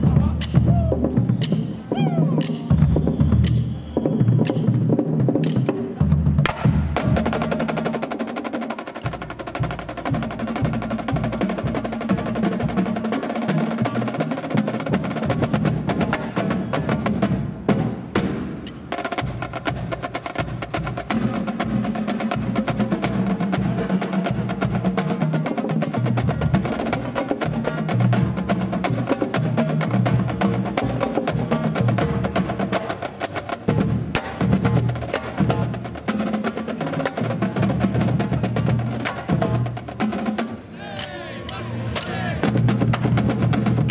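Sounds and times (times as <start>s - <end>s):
marching drumline: 0.0s - 43.9s.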